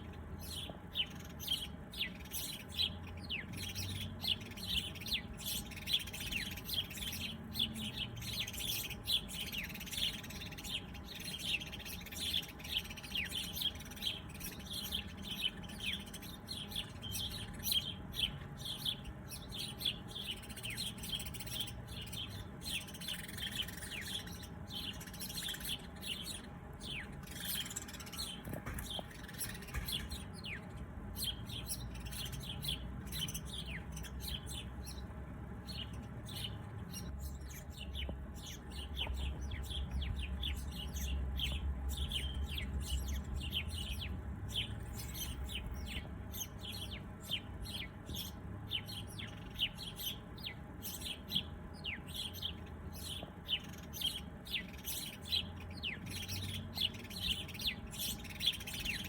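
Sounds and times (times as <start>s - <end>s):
faint low hum: 0.0s - 59.0s
small birds chirping: 0.0s - 59.0s.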